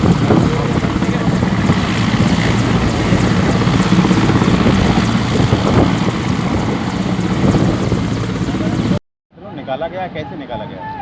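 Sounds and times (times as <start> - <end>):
helicopter rotor chopping: 0.0 - 9.0.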